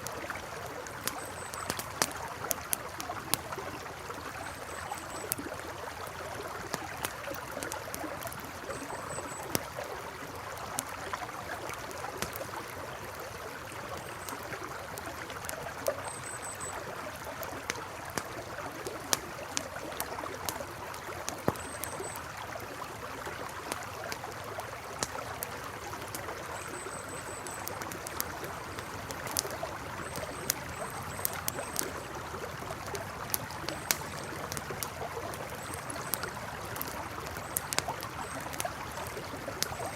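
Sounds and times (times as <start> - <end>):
campfire crackling: 0.0 - 39.9
river water flowing: 0.0 - 39.9.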